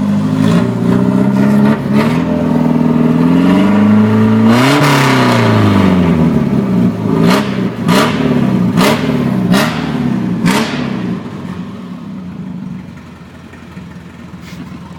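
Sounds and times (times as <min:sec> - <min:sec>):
car engine revving: 0:00.0 - 0:13.3.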